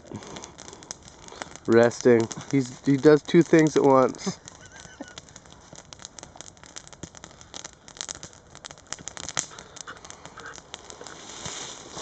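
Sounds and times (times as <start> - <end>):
twig fire crackling: 0.0 - 12.0
sharp snaps: 0.1 - 11.6.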